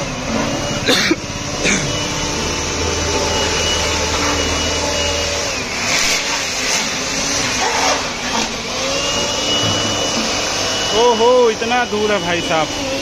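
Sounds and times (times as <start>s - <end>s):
electric air blower whining: 0.0s - 13.0s.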